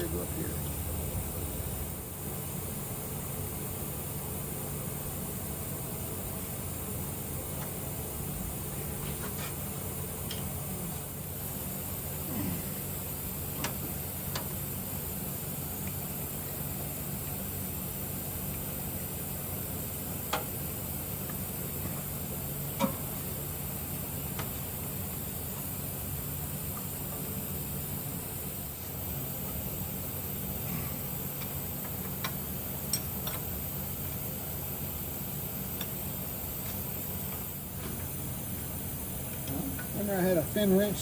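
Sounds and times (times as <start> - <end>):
steady hiss and low hum: 0.0 - 41.0.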